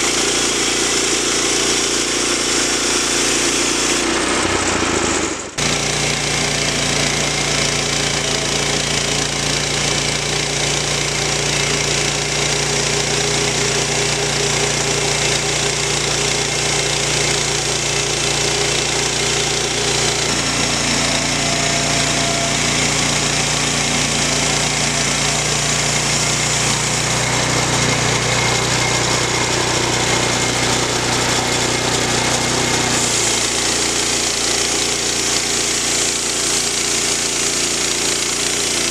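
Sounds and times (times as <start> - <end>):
saw blade cutting through log: 0.0 - 38.9
sawmill gasoline engine running: 0.0 - 38.9.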